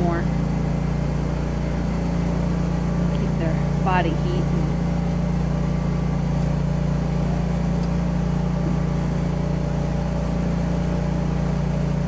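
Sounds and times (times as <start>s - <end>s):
feed mixer low drone: 0.0s - 12.0s.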